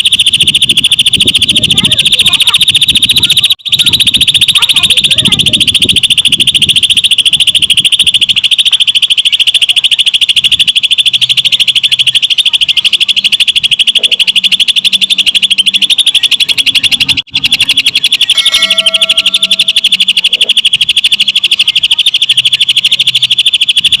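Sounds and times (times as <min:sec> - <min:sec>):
bird chattering trill: 0:00.0 - 0:24.0.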